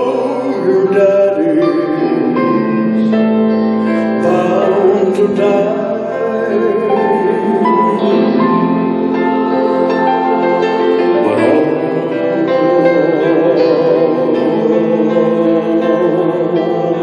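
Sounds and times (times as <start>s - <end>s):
choir singing: 0.0s - 3.4s, 4.1s - 17.0s
electric guitar: 0.0s - 17.0s
man singing slow song: 0.0s - 17.0s.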